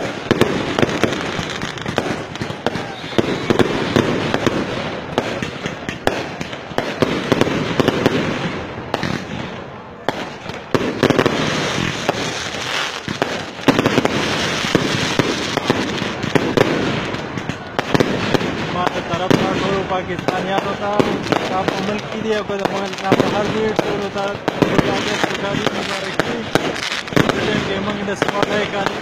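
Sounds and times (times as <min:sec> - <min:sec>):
fireworks popping and crackling: 0:00.0 - 0:29.0.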